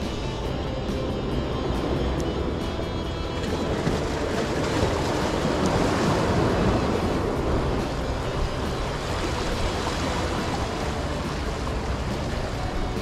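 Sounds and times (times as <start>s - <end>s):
water sloshing against boulders: 0.0s - 13.0s.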